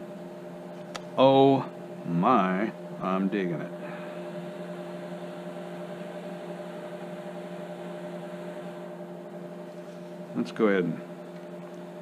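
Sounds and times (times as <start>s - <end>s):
electrical hum with tones: 0.0s - 12.0s.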